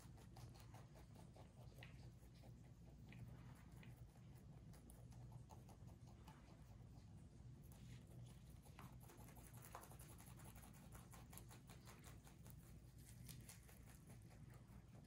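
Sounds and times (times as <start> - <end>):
low room hum: 0.0 - 15.0
rabbits chewing leaves: 0.0 - 15.0.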